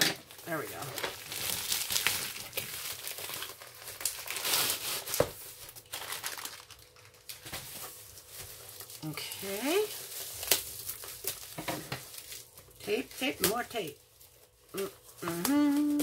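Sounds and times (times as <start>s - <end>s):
plastic bag and bubble wrap crinkling: 0.0s - 16.0s.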